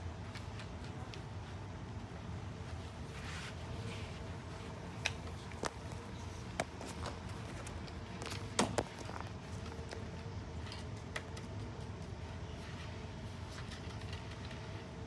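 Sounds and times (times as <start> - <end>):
room ventilation hum: 0.0 - 15.0.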